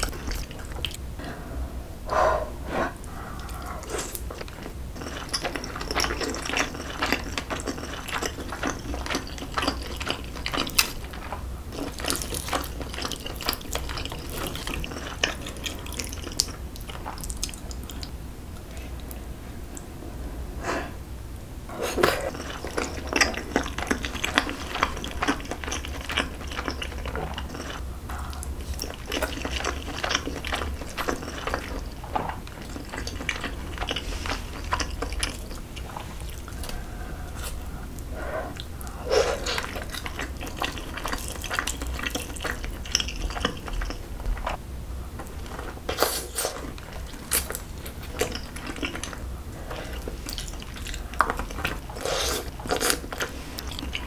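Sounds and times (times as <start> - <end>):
wet chewing and smacking: 0.0 - 1.0, 3.0 - 19.2, 21.9 - 44.6, 45.2 - 54.0.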